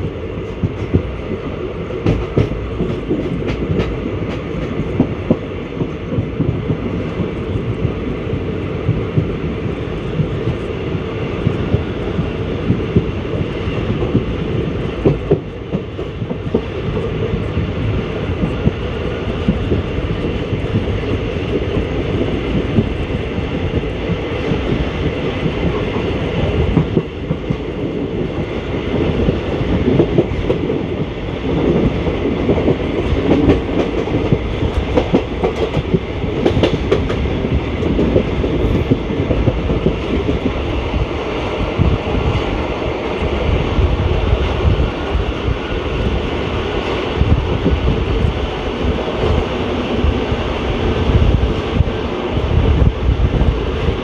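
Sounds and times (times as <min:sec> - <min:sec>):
train coaches rumbling: 0:00.0 - 0:54.0.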